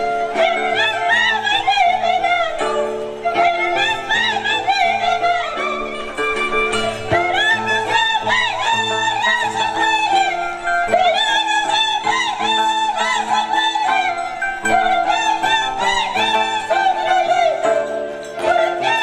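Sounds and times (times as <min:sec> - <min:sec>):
violin melody: 0:00.0 - 0:19.0.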